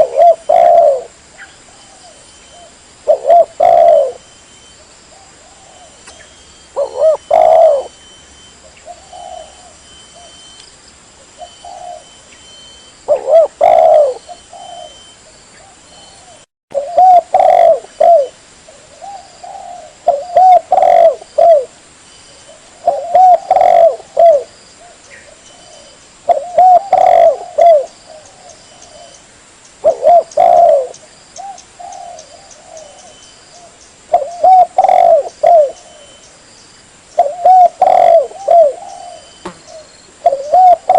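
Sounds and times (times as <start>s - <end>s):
dove cooing: 0.0s - 10.6s, 11.3s - 21.8s, 22.4s - 29.2s, 29.8s - 36.3s, 37.2s - 40.9s.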